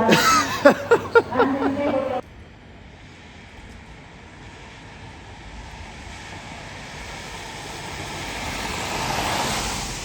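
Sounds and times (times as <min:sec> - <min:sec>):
road vehicle approaching: 0:00.0 - 0:10.0.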